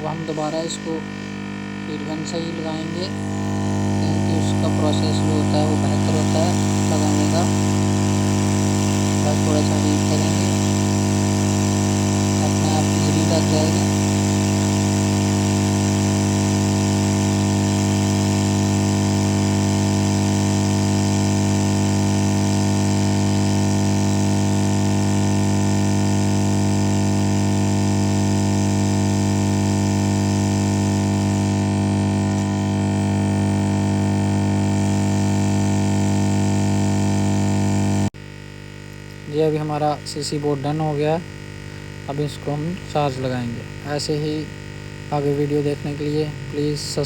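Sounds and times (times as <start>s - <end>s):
hot air gun blower humming: 0.0s - 38.1s.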